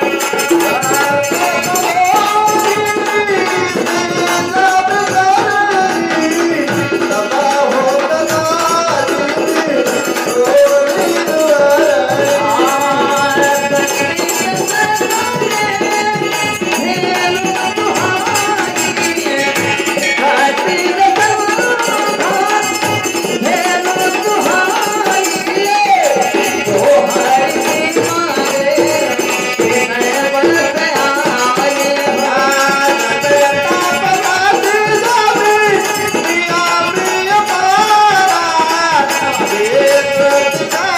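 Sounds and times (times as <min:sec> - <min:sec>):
hand drum: 0:00.0 - 0:40.9
jingling rattling percussion: 0:00.0 - 0:40.9
person singing: 0:00.0 - 0:40.9.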